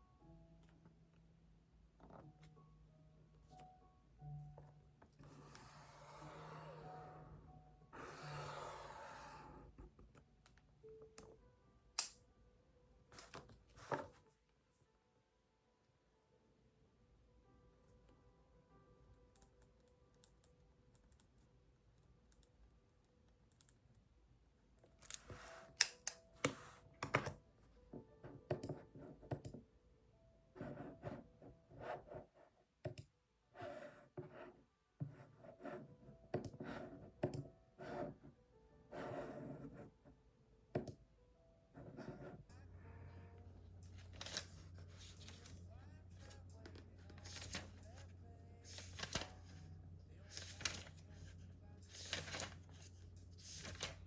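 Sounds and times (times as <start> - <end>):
faint background music: 0.0 - 54.0.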